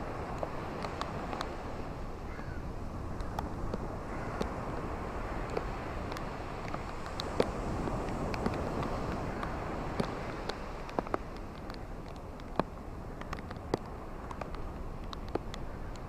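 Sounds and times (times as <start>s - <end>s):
ocean waves washing on shore: 0.0s - 16.0s
small clicks and pops: 0.3s - 1.6s, 3.2s - 16.0s.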